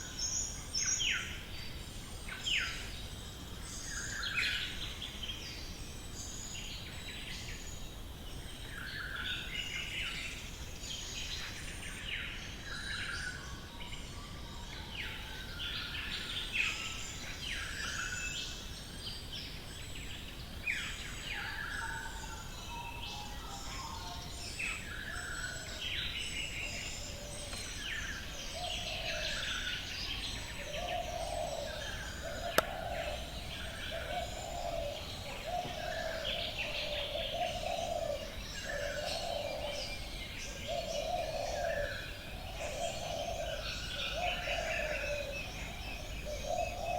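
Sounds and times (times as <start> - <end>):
low background hiss: 0.0 - 46.9.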